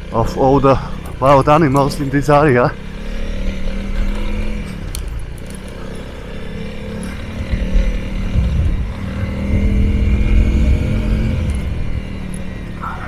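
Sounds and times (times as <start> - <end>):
motorcycle engine running: 0.0 - 13.0
stones clicking under tyres: 1.0 - 13.0.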